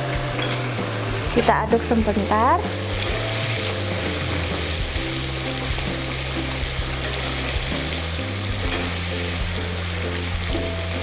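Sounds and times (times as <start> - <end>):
background music with low notes: 0.0 - 11.0
curry sizzling and bubbling in a wok: 0.0 - 11.0.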